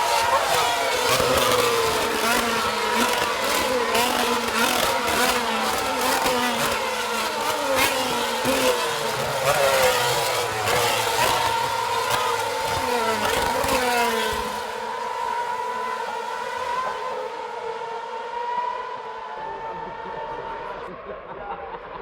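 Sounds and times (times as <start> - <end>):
racing cars passing by: 0.0 - 21.2.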